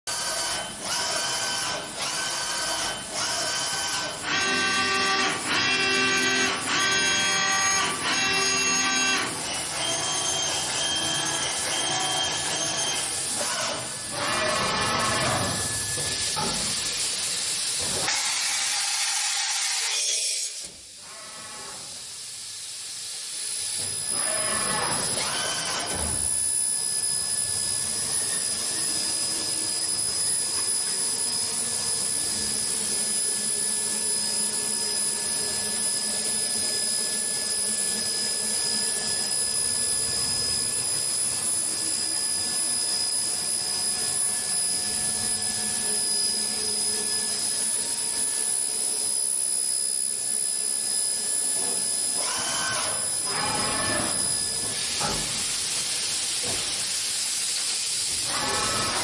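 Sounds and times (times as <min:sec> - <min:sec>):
machine hum and high whine: 0:00.1 - 0:18.1, 0:21.1 - 0:59.0.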